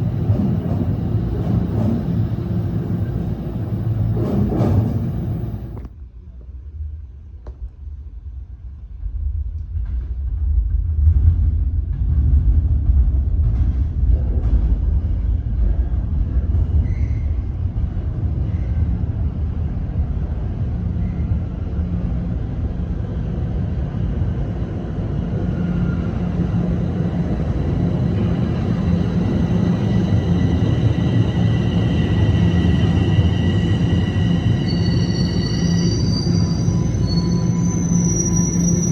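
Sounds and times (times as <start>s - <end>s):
subway train rumbling: 0.0s - 38.9s.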